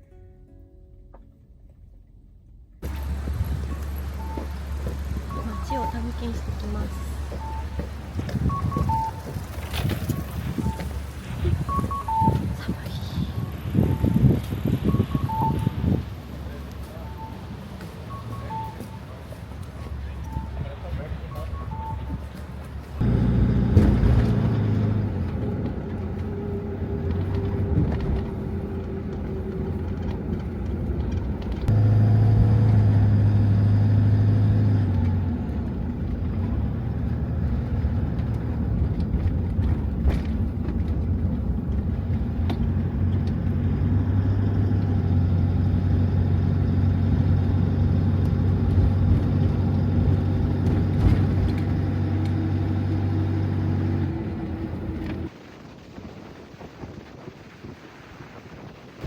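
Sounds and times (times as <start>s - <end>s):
van engine running: 2.8s - 55.5s.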